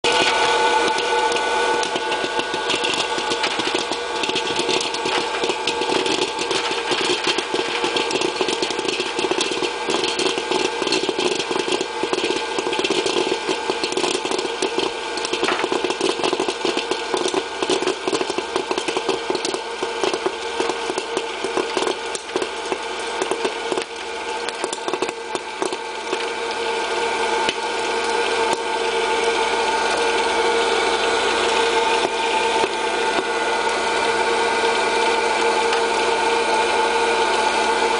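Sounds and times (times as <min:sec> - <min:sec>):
popcorn kernels popping: 0:00.0 - 0:37.9
popcorn popper fan whirring: 0:00.0 - 0:37.9.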